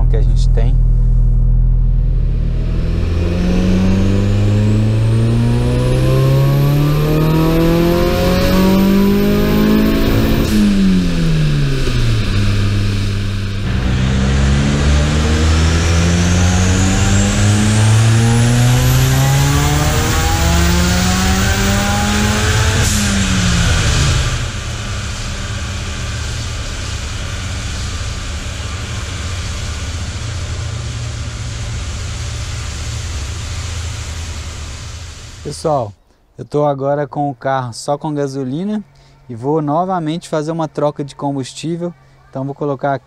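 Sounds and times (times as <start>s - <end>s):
car engine revving on dynamometer: 0.0s - 35.6s
thin high whine: 0.0s - 35.9s.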